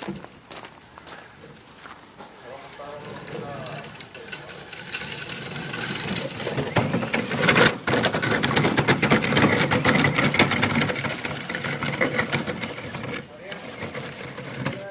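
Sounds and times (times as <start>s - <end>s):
gravel crunching: 0.0s - 14.9s
electric motor and gears whining: 2.8s - 14.9s.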